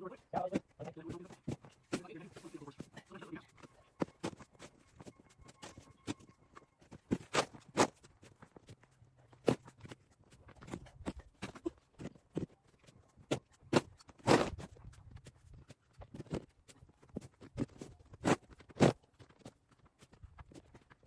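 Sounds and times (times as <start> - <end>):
footsteps crunching in snow: 0.1 - 21.0.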